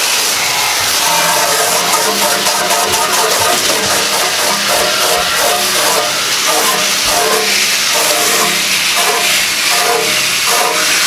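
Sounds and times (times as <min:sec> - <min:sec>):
hose nozzle spraying water: 0:00.0 - 0:11.0.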